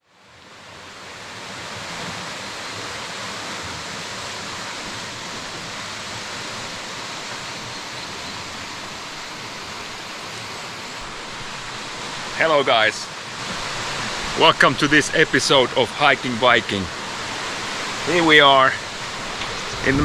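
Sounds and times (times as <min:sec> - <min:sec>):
steady rushing noise: 0:03.4 - 0:20.0.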